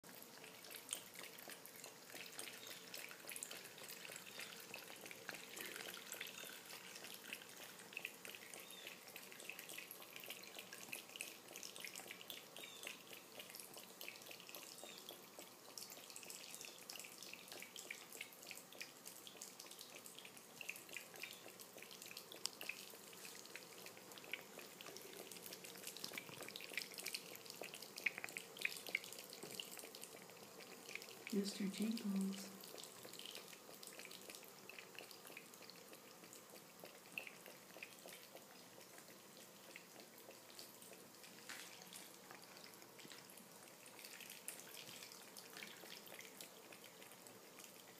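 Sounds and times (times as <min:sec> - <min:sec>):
cat lapping water: 0:00.0 - 0:47.9.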